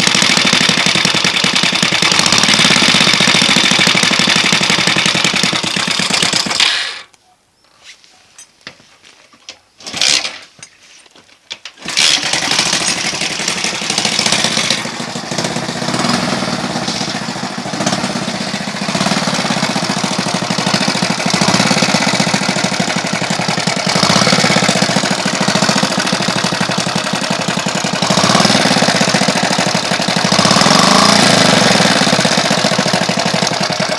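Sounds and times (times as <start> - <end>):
moped engine knocking: 0.0 - 6.6, 12.0 - 33.9.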